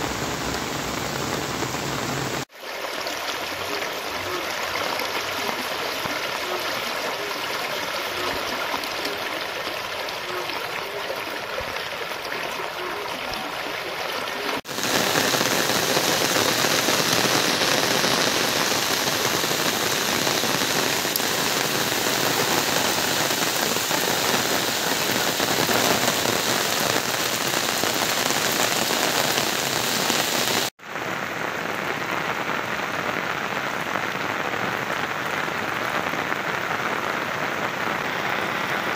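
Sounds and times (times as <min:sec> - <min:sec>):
flood water rushing: 0:00.0 - 0:38.9.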